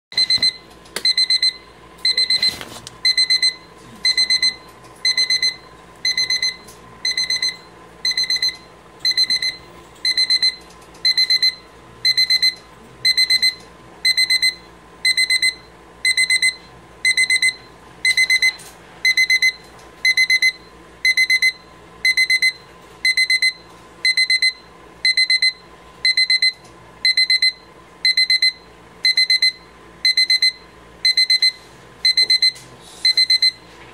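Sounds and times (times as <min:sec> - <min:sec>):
electronic alarm beeping: 0:00.2 - 0:33.6.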